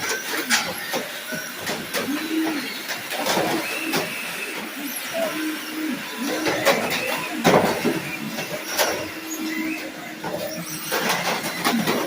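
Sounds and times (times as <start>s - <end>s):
toy cars knocking and clacking: 0.0s - 5.4s, 6.0s - 12.0s
toy car motors whining: 0.0s - 12.0s.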